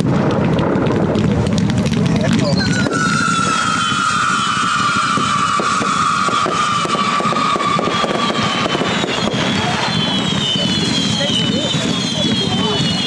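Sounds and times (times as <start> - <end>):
low rumble: 0.0 - 12.8
firework crackles and pops: 0.0 - 13.0
firework whistle sinking in pitch: 2.4 - 13.0.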